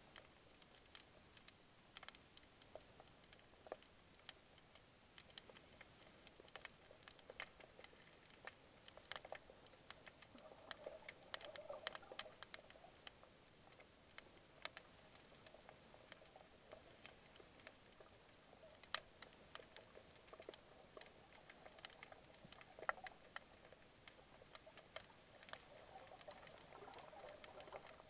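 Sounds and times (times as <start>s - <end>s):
underwater clicks and crackles: 0.0s - 28.0s.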